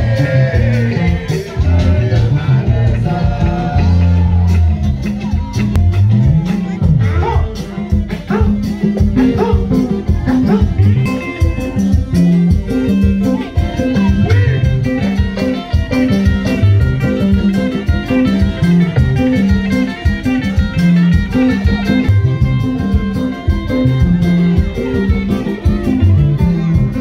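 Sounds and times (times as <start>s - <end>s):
low bass line: 0.0s - 27.0s
music with plucked guitar: 0.0s - 27.0s
steady beat: 0.0s - 27.0s.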